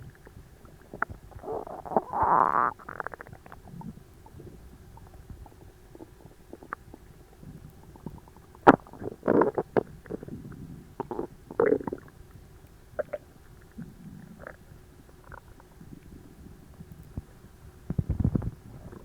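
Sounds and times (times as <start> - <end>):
stomach gurgling: 0.0 - 19.0.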